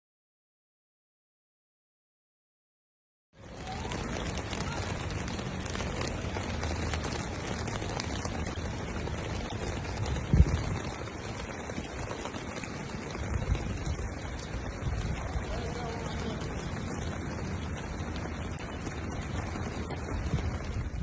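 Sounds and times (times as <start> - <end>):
heavy rain falling: 3.4 - 21.0.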